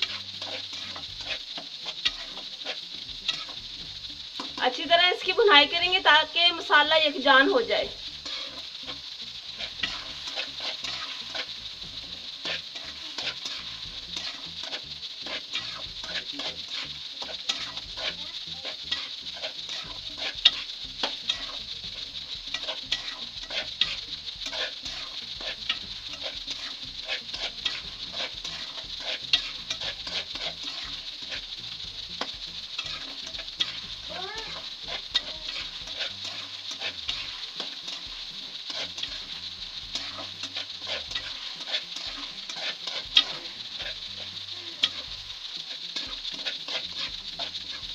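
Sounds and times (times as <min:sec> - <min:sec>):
food sizzling in hot oil: 0:00.0 - 0:47.9
metal spatula scraping pan: 0:00.0 - 0:47.9.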